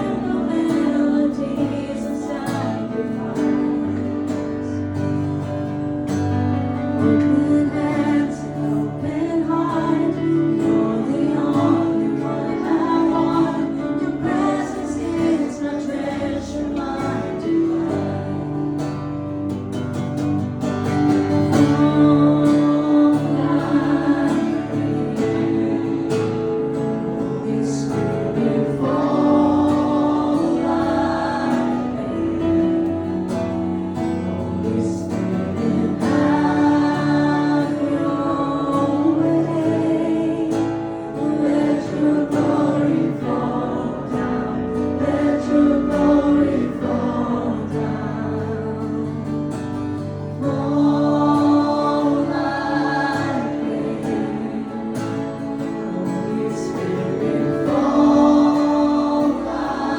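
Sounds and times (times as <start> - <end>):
acoustic guitar: 0.0 - 59.9
group singing worship song: 0.0 - 59.9.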